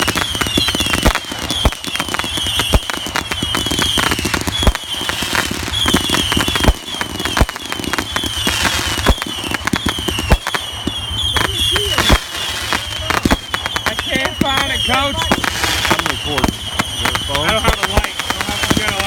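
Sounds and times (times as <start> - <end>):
firecrackers popping and crackling: 0.0 - 19.0
firework bangs: 0.0 - 19.0
high falling chirp: 0.3 - 19.0.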